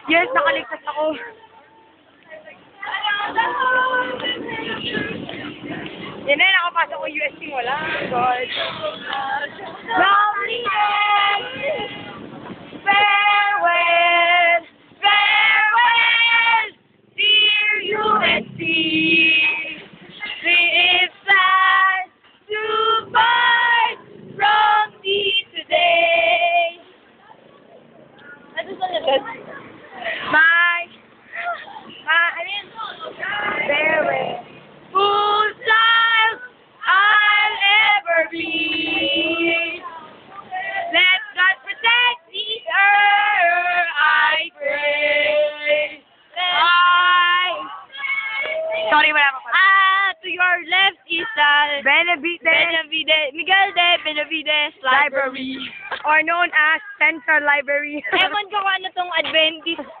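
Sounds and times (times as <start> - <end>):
young women singing loudly: 0.0 - 6.3, 7.6 - 26.9, 30.1 - 55.9.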